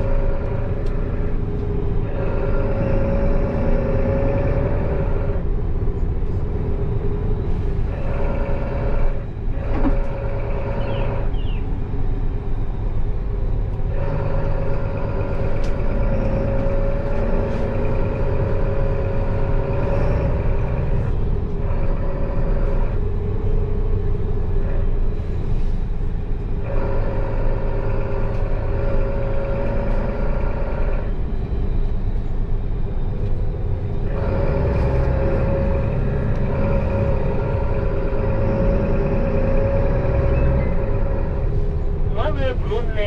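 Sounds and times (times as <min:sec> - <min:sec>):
bus engine and road rumble: 0:00.0 - 0:43.0
constant whine: 0:00.0 - 0:43.0.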